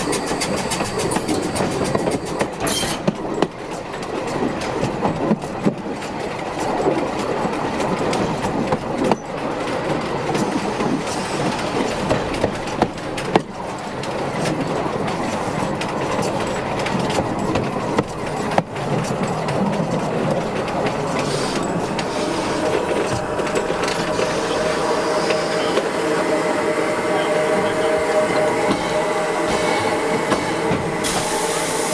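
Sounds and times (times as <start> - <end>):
wheels clicking over track: 0.0 - 26.0
steam locomotive rolling: 0.0 - 31.9.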